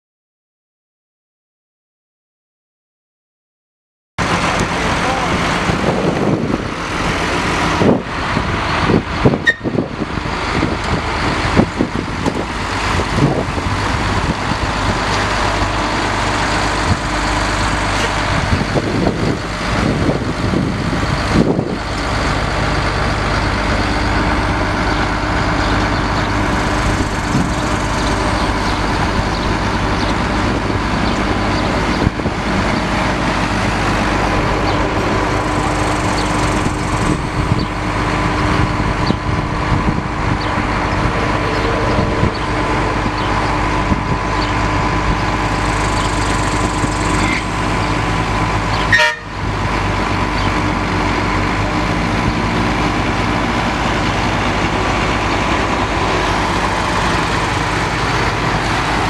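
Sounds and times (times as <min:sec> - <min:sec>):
truck engine running: 0:04.2 - 0:59.0.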